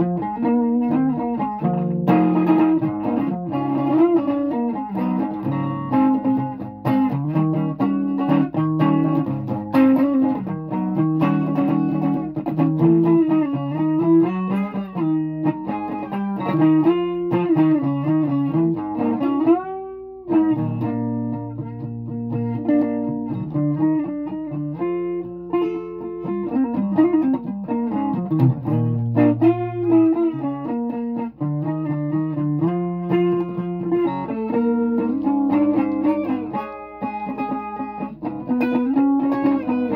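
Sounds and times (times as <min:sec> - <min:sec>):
guitar melody: 0:00.0 - 0:39.9.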